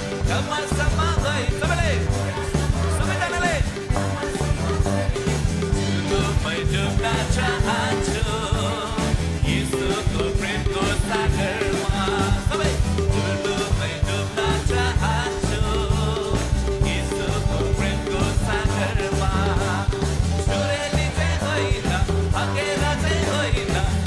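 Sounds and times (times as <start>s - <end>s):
worship music with singing: 0.0s - 24.0s.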